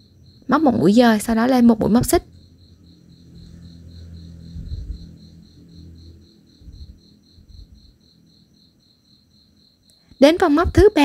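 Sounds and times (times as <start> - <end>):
high-pitched insect chirping: 0.0 - 11.0.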